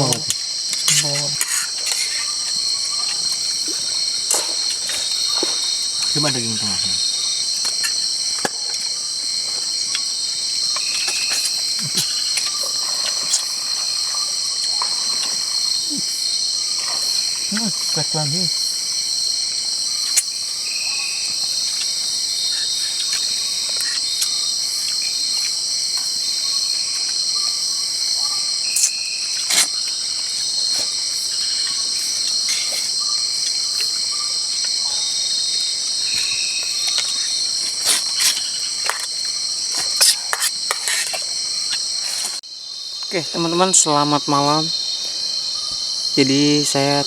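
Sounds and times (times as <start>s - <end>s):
crickets and insects trilling: 0.0s - 47.0s.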